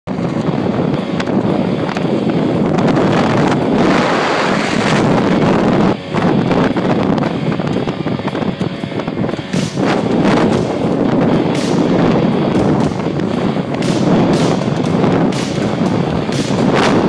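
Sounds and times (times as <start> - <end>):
wind buffeting microphone: 0.1 - 17.0.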